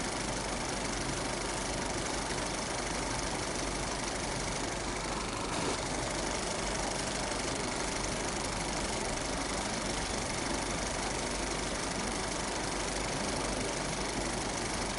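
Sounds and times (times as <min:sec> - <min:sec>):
film projector clattering: 0:00.0 - 0:14.9
projector motor hum: 0:00.0 - 0:14.9.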